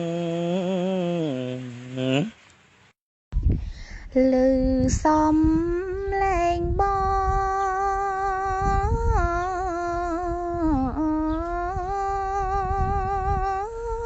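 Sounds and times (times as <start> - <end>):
high voice humming long notes: 0.0 - 2.3, 4.1 - 14.0.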